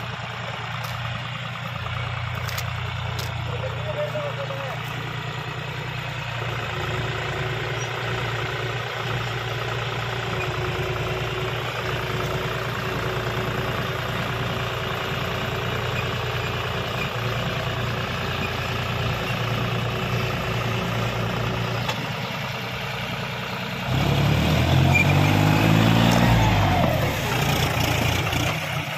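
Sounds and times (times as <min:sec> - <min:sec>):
tractor diesel engine revving: 0:00.0 - 0:28.9.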